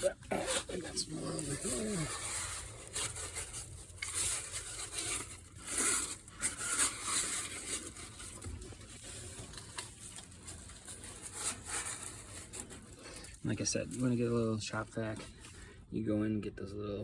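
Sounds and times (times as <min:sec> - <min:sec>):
dry leaves rustling and crunching: 0:00.0 - 0:14.8.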